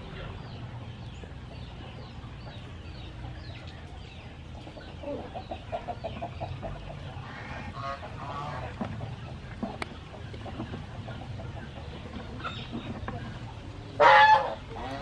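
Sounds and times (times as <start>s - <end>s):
chicken clucking: 0.0s - 15.0s.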